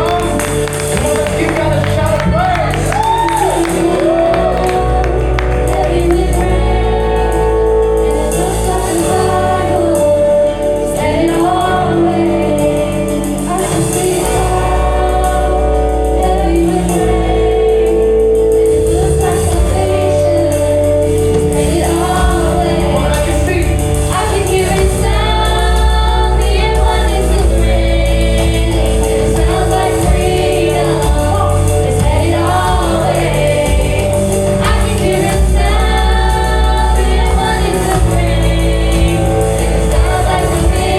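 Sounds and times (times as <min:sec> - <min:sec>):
keyboard chords: 0:00.0 - 0:40.9
live band playing: 0:00.0 - 0:40.9
steady bass: 0:00.0 - 0:40.9
voices singing together: 0:00.0 - 0:40.9.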